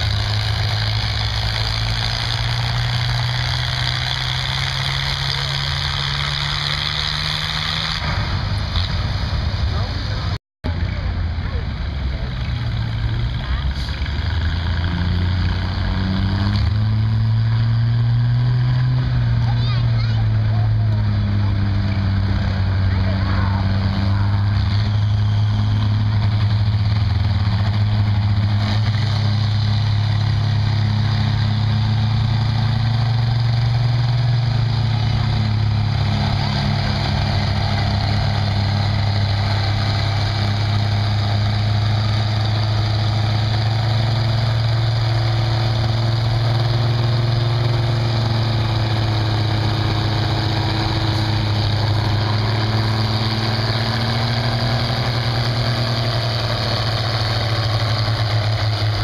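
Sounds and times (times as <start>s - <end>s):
tractor engine at high revs: 0.0s - 59.0s.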